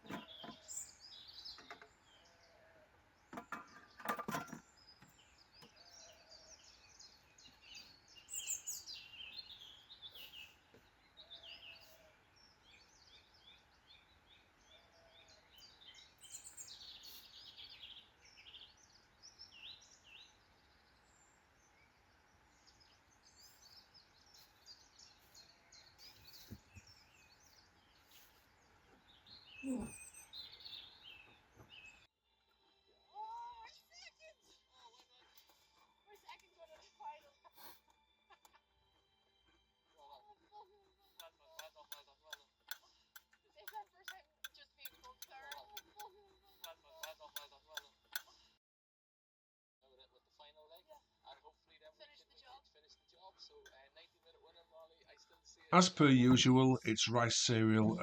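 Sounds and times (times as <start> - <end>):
small birds chirping and trilling: 0.0 - 48.6.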